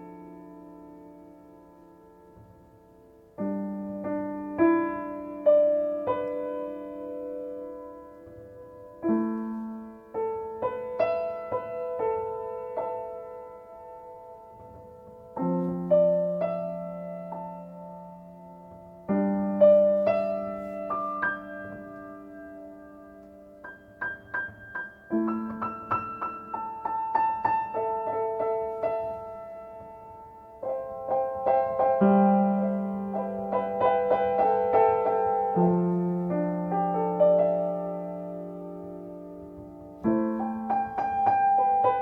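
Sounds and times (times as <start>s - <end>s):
slow solo piano: 0.0s - 42.0s.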